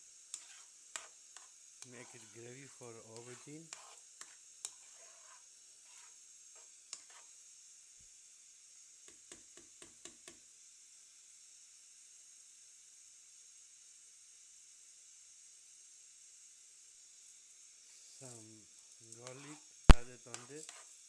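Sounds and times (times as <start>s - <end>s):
gravy sizzling in a pan: 0.0s - 21.0s.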